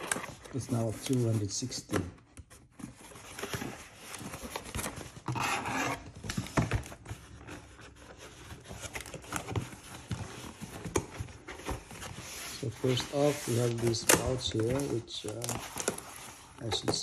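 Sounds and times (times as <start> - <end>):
cardboard scraping and rubbing: 2.6 - 17.0.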